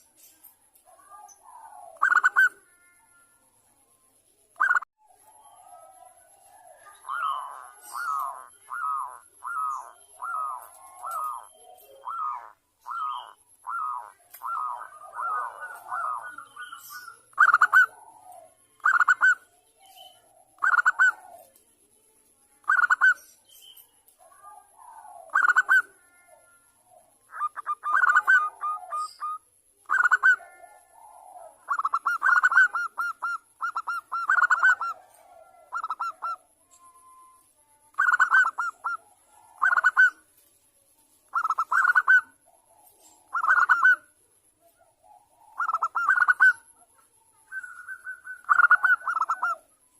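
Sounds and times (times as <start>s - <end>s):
dove coo trills: 0.0s - 3.3s, 4.6s - 21.6s, 22.6s - 23.4s, 24.2s - 40.3s, 41.3s - 49.9s.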